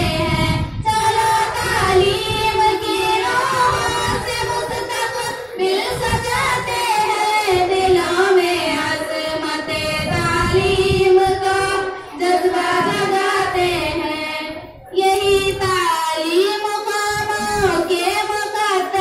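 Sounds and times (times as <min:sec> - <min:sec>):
girls singing together: 0:00.0 - 0:19.0.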